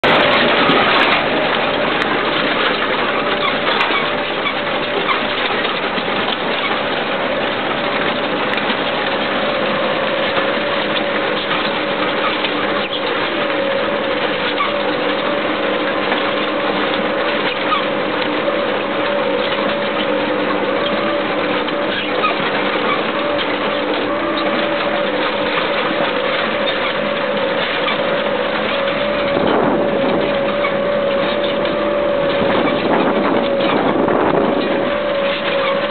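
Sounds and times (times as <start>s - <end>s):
tractor engine under load: 0.0s - 35.9s.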